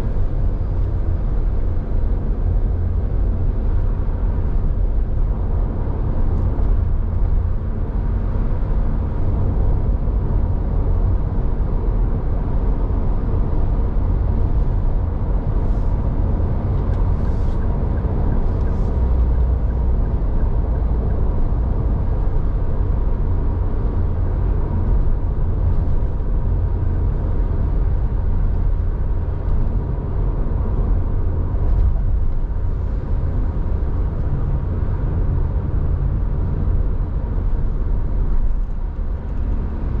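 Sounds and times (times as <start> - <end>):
car road and engine rumble: 0.0 - 40.0.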